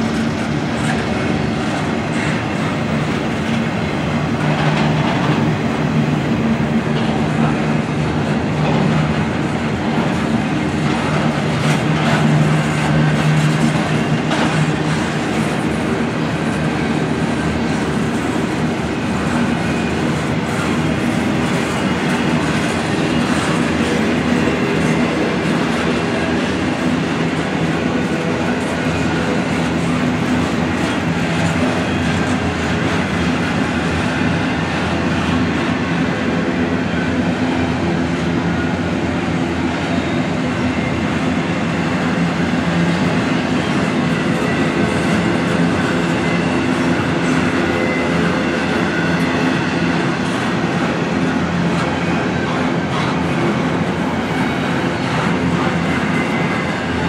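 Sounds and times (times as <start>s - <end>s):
train wheels clattering on rails: 0.0s - 57.0s.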